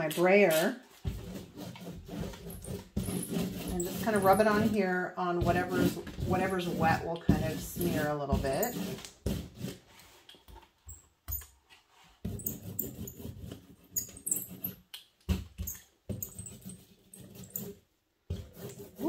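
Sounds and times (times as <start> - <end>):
brayer rubbing and squeaking: 0.4 - 9.9, 11.8 - 14.9, 15.6 - 19.0.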